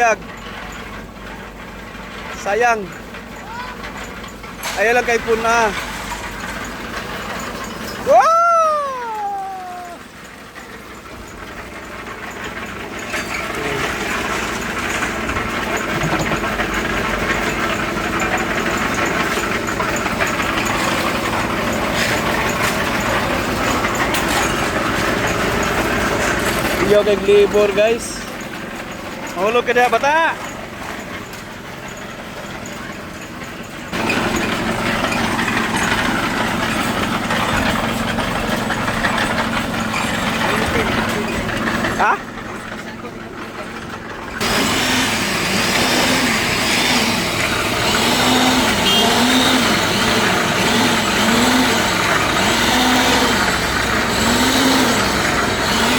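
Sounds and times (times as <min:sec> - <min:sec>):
diesel engine running under load: 0:00.0 - 0:55.9.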